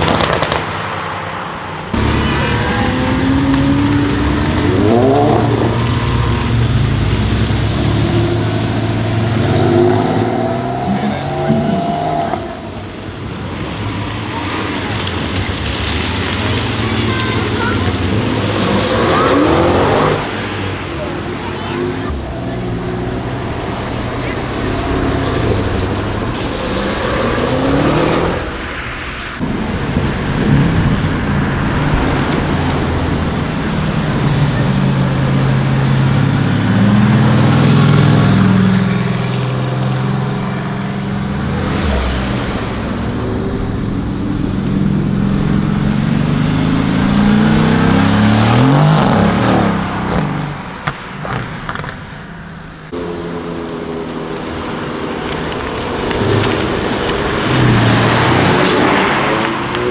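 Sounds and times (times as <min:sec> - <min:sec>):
car engines revving: 0:00.0 - 0:59.9
cars passing by: 0:00.0 - 0:59.9.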